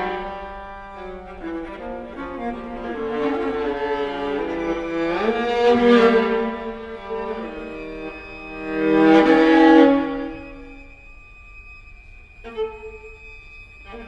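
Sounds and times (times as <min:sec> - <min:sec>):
violas playing bowed notes: 0:00.0 - 0:14.0.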